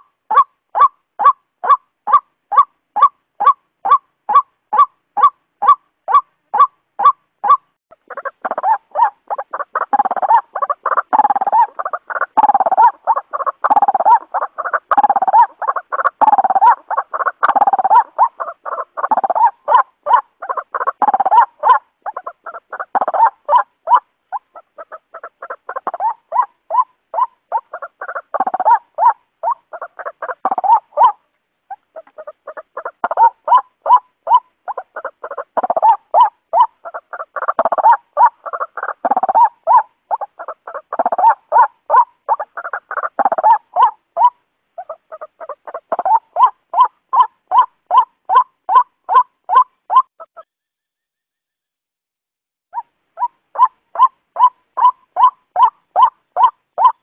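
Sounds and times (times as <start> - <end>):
waterhen calling: 0.0 - 50.5, 52.8 - 57.0.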